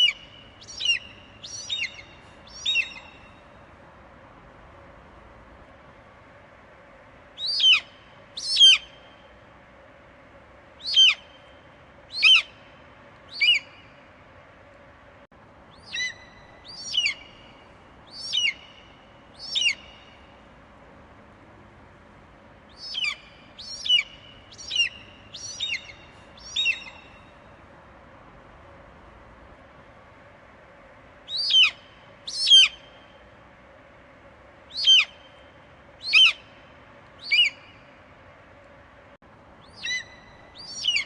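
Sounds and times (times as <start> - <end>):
background hiss: 0.0 - 41.0.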